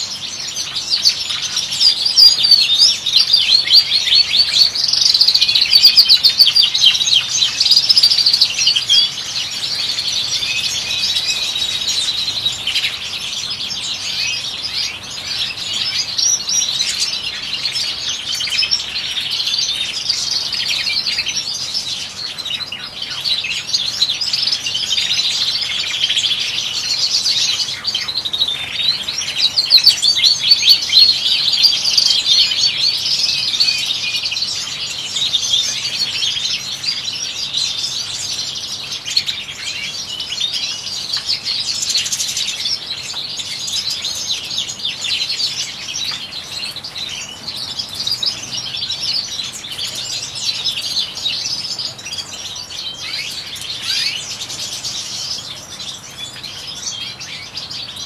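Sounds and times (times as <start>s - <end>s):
goldfinches singing and twittering: 0.0s - 58.0s.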